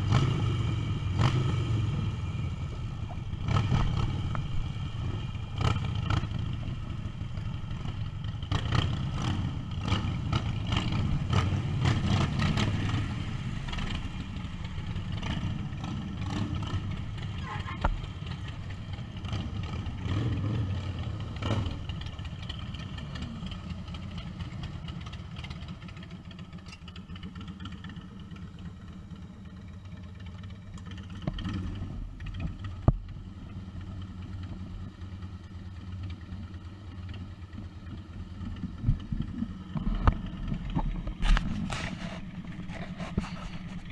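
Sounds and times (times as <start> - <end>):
motorcycle engines idling: 0.0 - 43.9.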